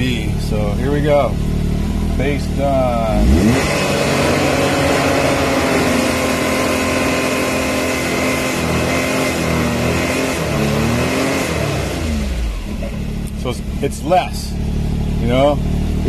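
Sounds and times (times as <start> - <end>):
engine droning at high revs: 0.0 - 16.0.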